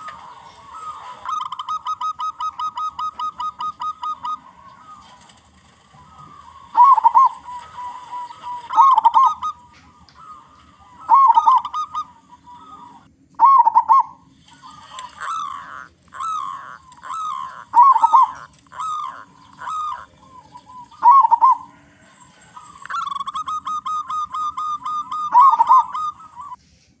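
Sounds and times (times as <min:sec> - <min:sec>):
dove cooing: 0:00.0 - 0:26.6.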